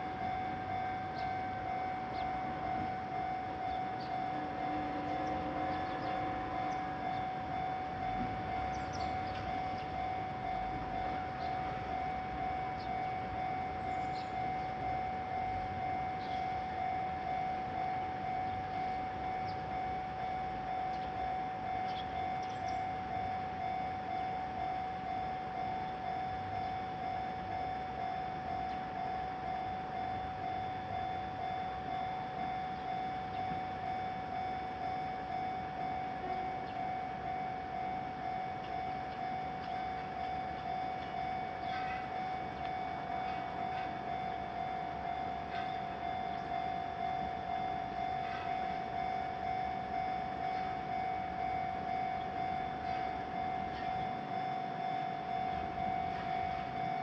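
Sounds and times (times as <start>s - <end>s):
railroad crossing warning bell: 0.0s - 57.0s.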